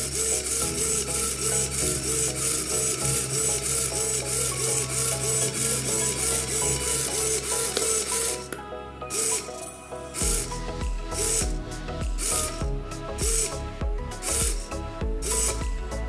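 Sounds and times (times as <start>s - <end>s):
servo motor whine: 0.0s - 16.0s.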